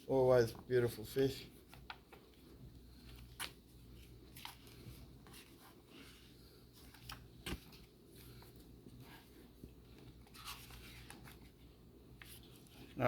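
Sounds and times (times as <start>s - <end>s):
book pages turning: 1.6s - 13.0s.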